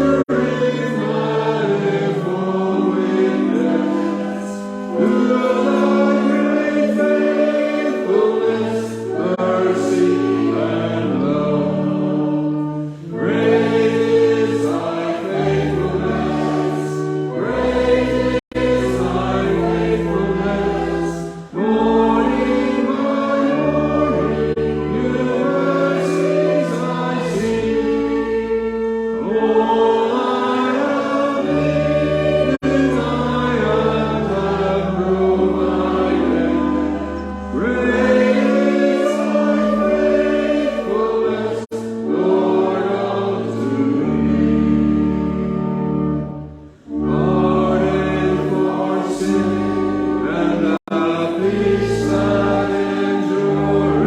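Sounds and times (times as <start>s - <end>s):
people singing a hymn: 0.0s - 54.0s.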